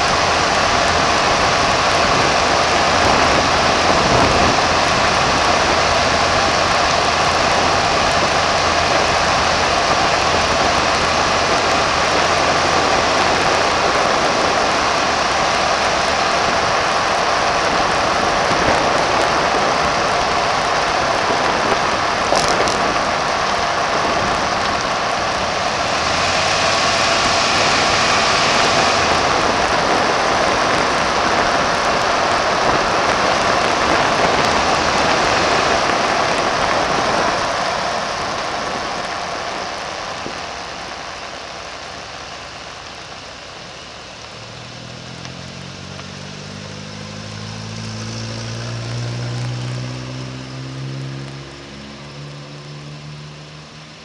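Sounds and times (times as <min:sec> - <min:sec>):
engine idling: 0:00.0 - 0:45.8
tyres on wet slushy road: 0:00.0 - 0:54.0.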